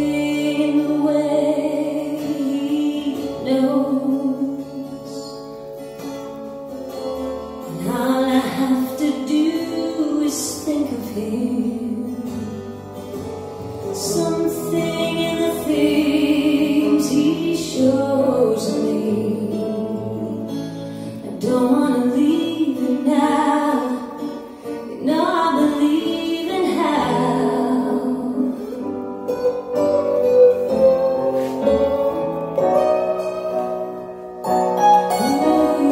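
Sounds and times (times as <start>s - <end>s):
song with singing and guitar: 0.0s - 35.9s.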